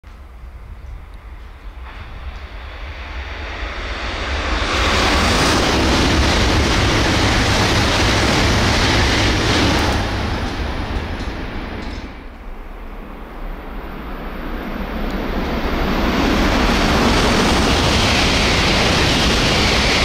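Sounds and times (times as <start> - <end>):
bullet train passing: 0.1 - 20.0.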